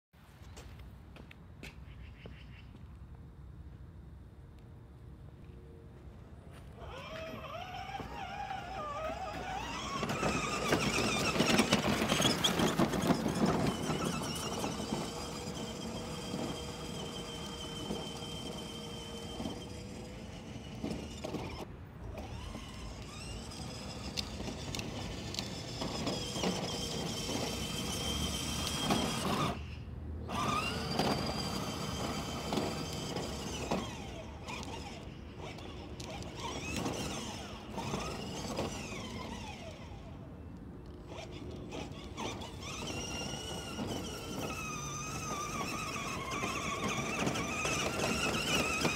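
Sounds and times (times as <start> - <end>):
toy car electric motors whining: 6.6 - 48.9.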